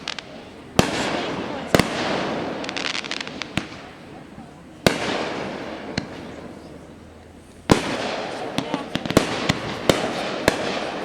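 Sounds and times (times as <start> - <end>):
fireworks crackling: 0.0 - 11.0
small firework pops: 0.0 - 11.0.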